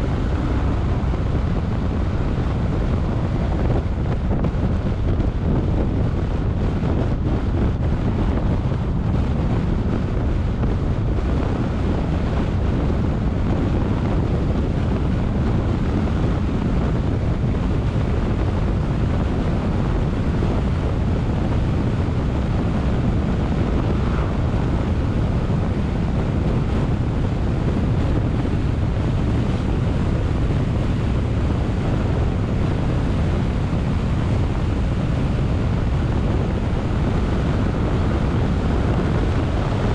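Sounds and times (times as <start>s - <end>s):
tyre and road noise: 0.0s - 39.9s
wind rushing over microphone: 0.0s - 39.9s.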